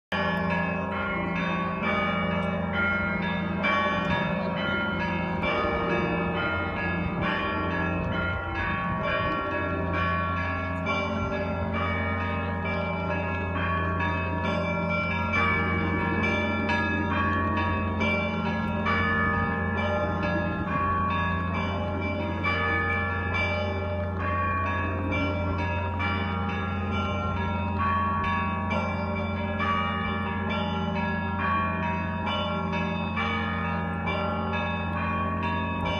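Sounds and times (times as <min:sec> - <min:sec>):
church bells ringing: 0:00.1 - 0:35.9.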